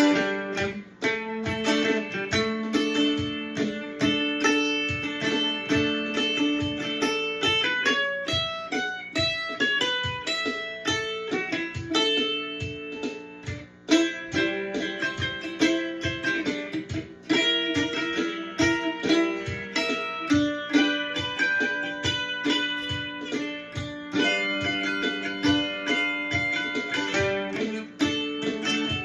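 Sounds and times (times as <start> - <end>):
mandolin melody: 0.0 - 29.0.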